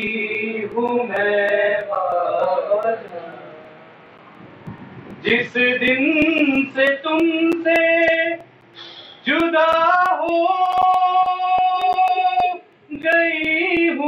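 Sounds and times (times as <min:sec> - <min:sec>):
sharp steady clicks: 0:00.0 - 0:03.2, 0:04.1 - 0:14.0.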